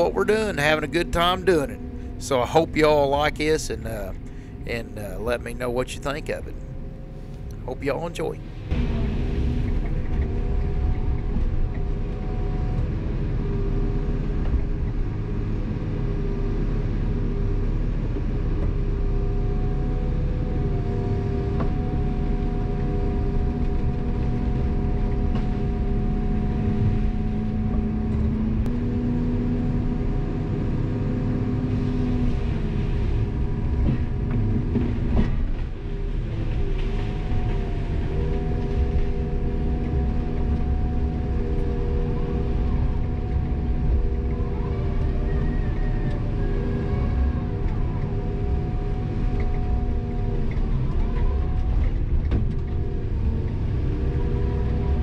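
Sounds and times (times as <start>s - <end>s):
diesel engine and hydraulics whining: 0.0s - 55.0s.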